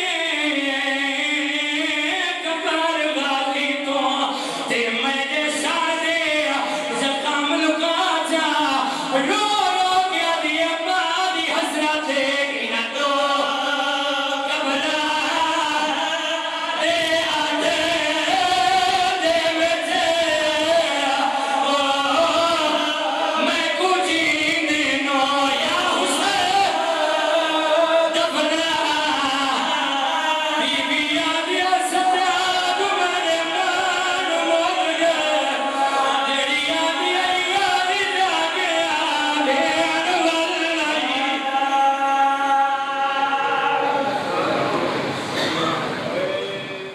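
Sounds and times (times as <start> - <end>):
men chanting in unison: 0.0 - 44.4.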